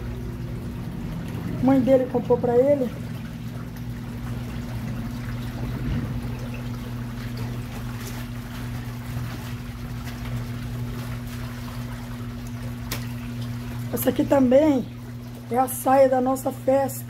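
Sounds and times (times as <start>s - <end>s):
washing machine humming: 0.0s - 17.0s
water sloshing in tub: 0.0s - 17.0s.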